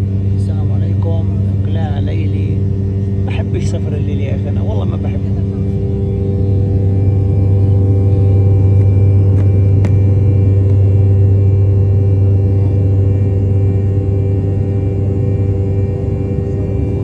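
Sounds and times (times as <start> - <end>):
jet engine drone: 0.0 - 17.0
jet engine whine: 0.0 - 17.0.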